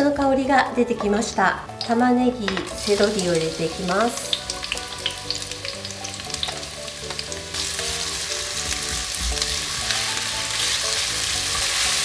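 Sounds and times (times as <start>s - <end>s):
vegetables sizzling in oil: 1.2s - 12.0s.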